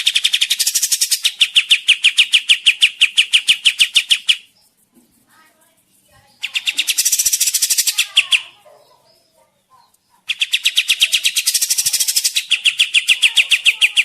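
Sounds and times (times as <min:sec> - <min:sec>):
bird singing a rattling trill: 0:00.0 - 0:04.8, 0:06.0 - 0:14.0.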